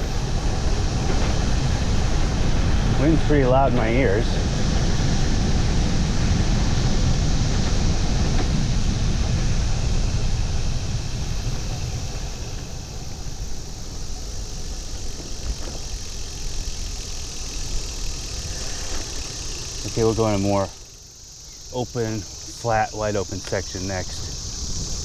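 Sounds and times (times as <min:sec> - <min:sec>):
wind buffeting microphone: 0:00.0 - 0:20.8, 0:21.6 - 0:25.0.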